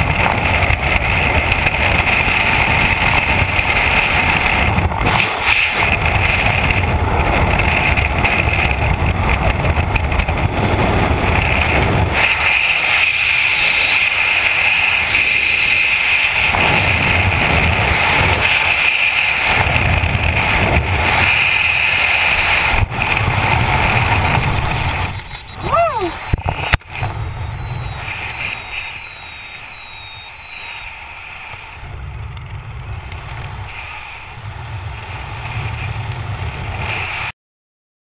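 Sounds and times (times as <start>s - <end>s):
wind rushing over microphone: 0.0s - 37.3s.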